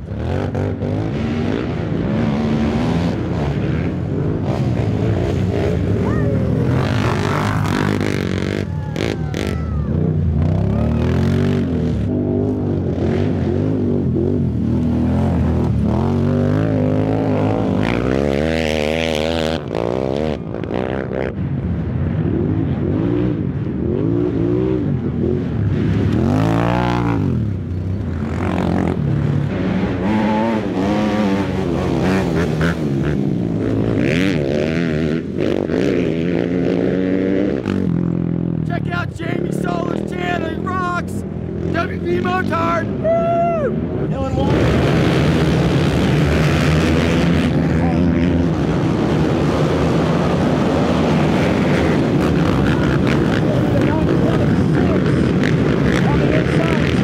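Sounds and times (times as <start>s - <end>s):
quad engines revving past: 0.0s - 21.5s, 22.2s - 43.0s, 43.9s - 57.0s.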